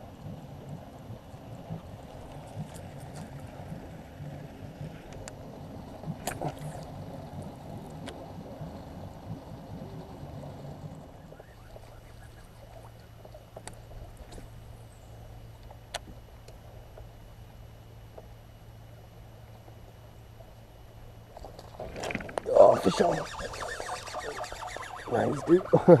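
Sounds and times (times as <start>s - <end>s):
water noise: 0.0s - 16.0s, 20.8s - 26.0s
boat engine rumble: 0.0s - 26.0s.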